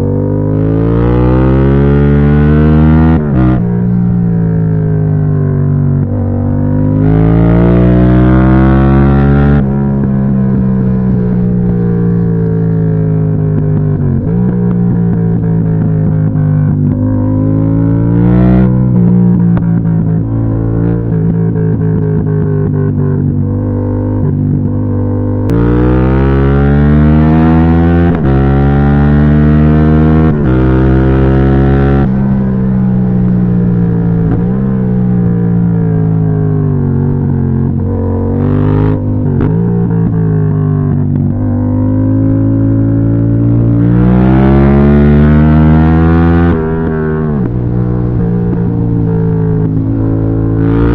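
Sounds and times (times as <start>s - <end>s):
motorcycle engine under load: 0.0s - 50.9s.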